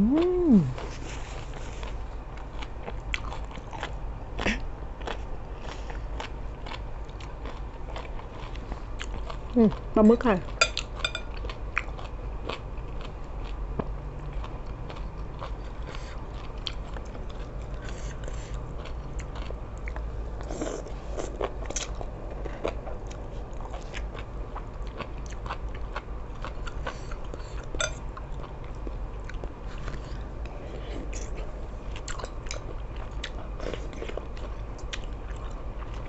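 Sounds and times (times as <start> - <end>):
person chewing: 0.0 - 13.6, 14.2 - 36.0.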